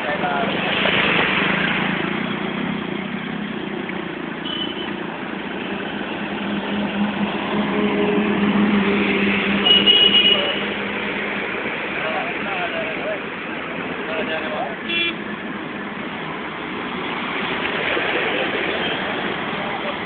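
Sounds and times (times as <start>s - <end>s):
traffic noise wash: 0.0s - 20.0s
vehicle engine humming: 0.0s - 20.0s.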